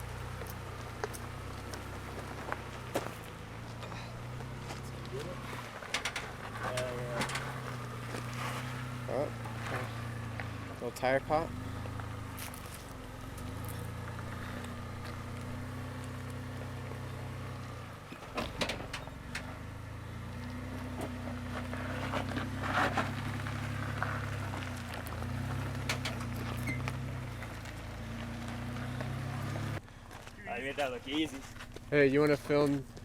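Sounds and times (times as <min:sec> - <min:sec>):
tires crunching over rock and gravel: 0:00.0 - 0:33.0
truck engine running at low revs: 0:00.0 - 0:33.0.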